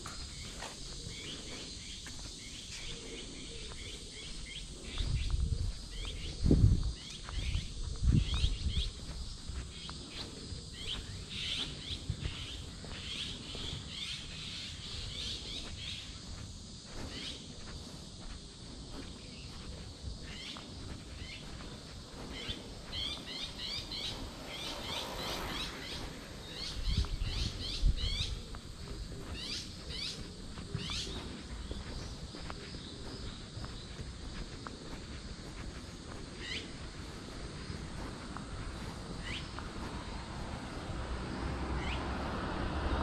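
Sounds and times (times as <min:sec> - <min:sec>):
birds chirping: 0:00.0 - 0:41.0, 0:41.8 - 0:42.3.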